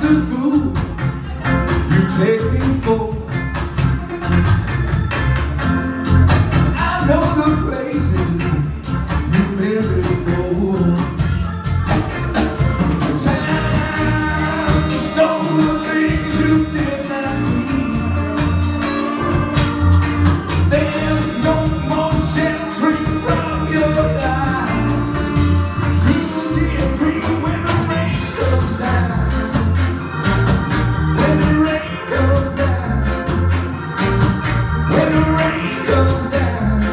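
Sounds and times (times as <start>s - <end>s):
lead singer: 0.0s - 4.4s, 6.7s - 36.9s
live band playing: 0.0s - 36.9s.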